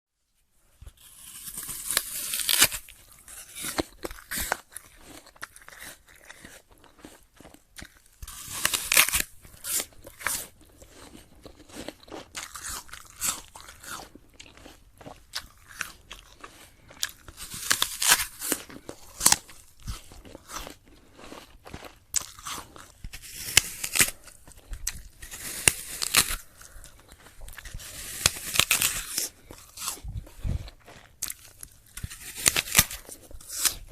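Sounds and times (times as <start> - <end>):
crackly chewing: 0.7 - 33.9
crunchy apple bites: 0.8 - 33.9.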